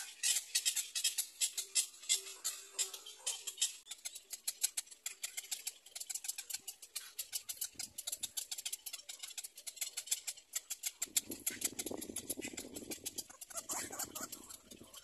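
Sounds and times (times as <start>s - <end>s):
heron chicks clicking chatter: 0.0s - 15.0s.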